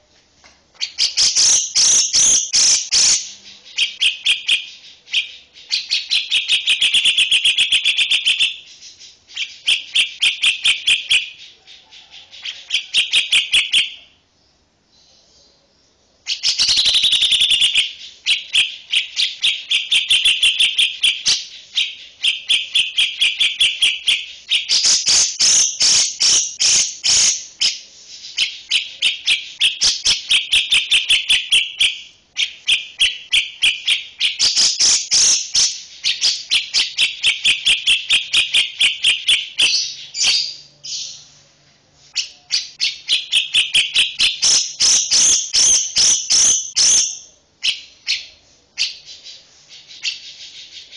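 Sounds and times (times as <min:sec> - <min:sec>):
songbird chirping: 0:00.0 - 0:50.9.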